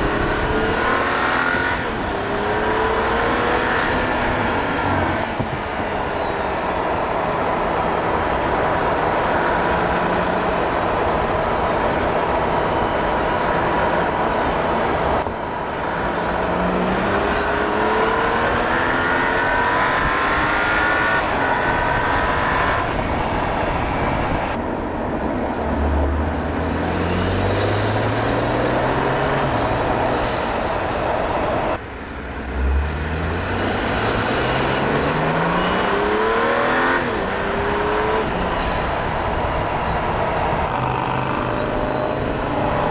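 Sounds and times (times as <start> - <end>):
car engine pulling hard: 0.0 - 42.9
wind and road noise: 0.0 - 42.9.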